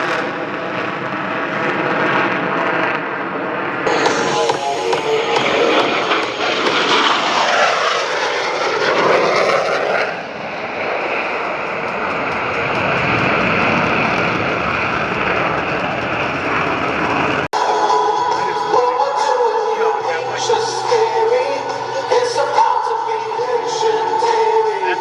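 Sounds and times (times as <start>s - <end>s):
jet engines roaring overhead: 0.0s - 25.0s.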